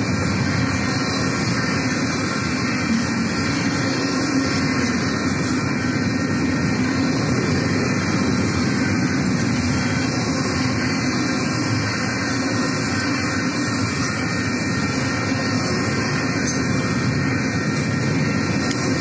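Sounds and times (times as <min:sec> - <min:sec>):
freight train rolling on rails: 0:00.0 - 0:19.0.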